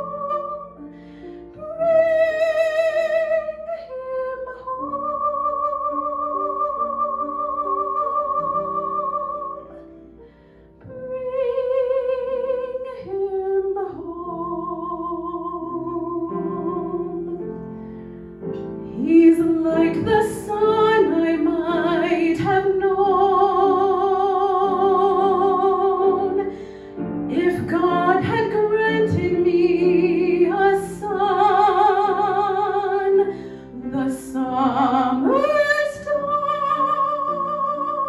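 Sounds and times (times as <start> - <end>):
woman singing operatic ballad: 0.0 - 9.8, 10.8 - 17.4, 18.9 - 38.0
soft instrumental accompaniment: 0.0 - 38.0.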